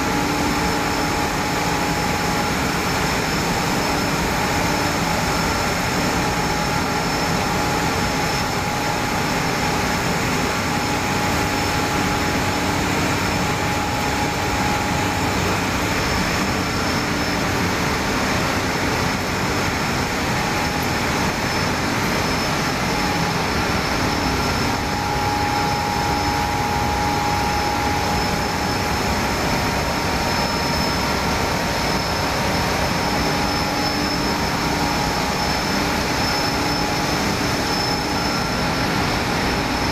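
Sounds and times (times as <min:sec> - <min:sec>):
machines mechanical drone: 0:00.0 - 0:39.9
thin high whine: 0:00.0 - 0:39.9.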